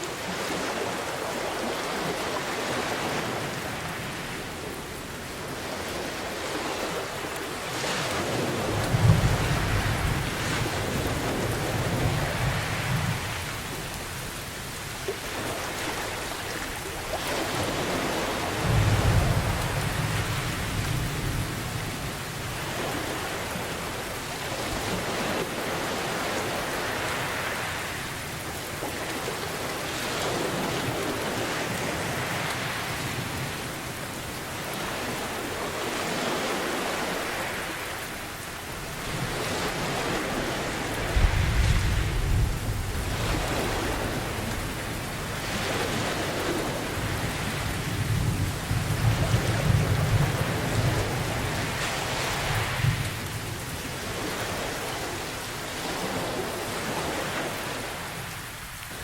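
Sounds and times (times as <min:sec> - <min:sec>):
heavy rain: 0:00.0 - 0:59.0
ocean surf: 0:00.0 - 0:59.0.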